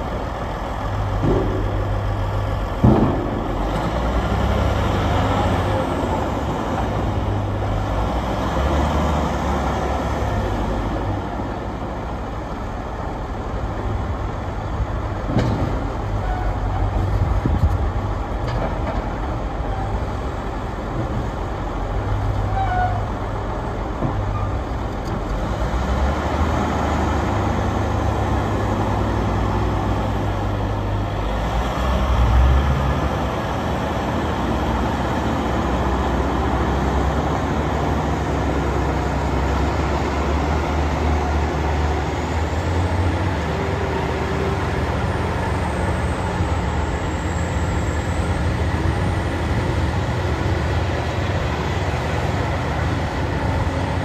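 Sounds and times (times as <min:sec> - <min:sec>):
wheel loader diesel engine: 0:00.0 - 0:54.0.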